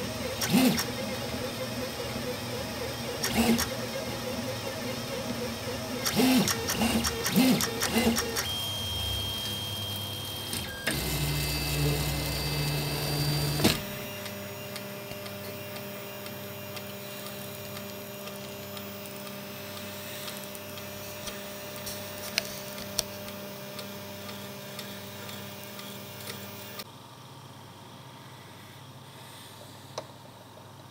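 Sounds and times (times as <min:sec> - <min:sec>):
stepper motors whining: 0:00.0 - 0:26.8
cooling fans humming: 0:00.0 - 0:30.9.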